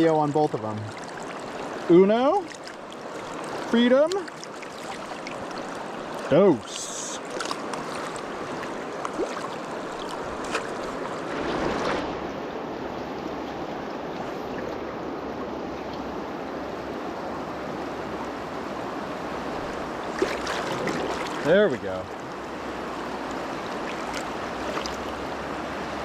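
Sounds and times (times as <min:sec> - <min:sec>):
river current rushing: 0:00.0 - 0:26.0.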